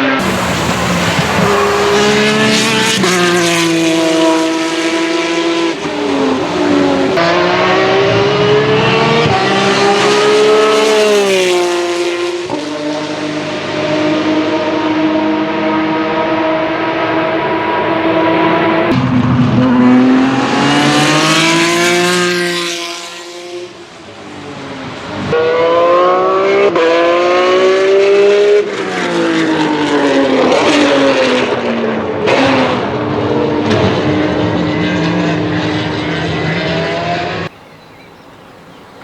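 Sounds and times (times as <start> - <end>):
race car engines revving: 0.0 - 37.5.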